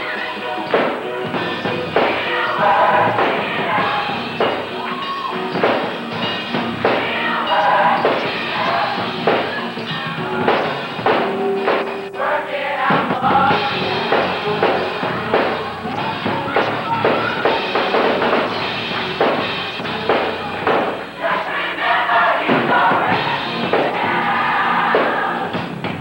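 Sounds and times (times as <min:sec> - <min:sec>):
gospel choir singing: 0:00.0 - 0:25.8
drum kit beat: 0:00.0 - 0:26.0.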